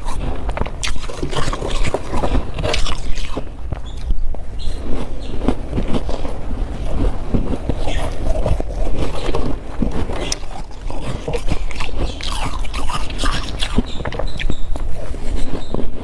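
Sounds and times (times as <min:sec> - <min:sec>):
frost crunching: 0:00.0 - 0:16.0.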